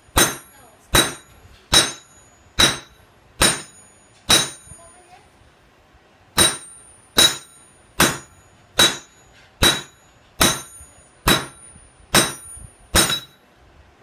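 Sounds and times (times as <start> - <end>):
hammer striking steel on anvil: 0.0 - 4.9, 6.4 - 13.4.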